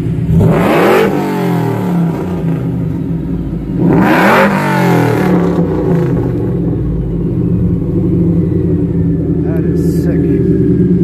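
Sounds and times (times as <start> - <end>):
pickup engine idling and revving: 0.0 - 11.0.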